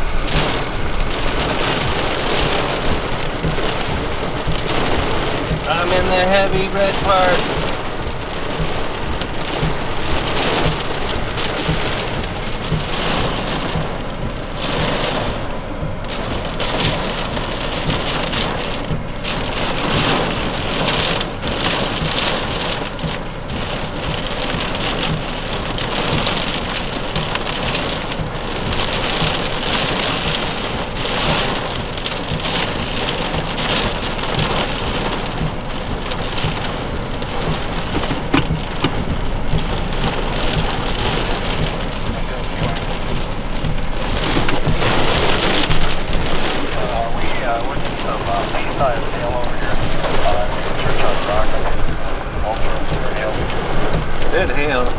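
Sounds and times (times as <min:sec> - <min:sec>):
rain drumming on car roof: 0:00.0 - 0:54.9.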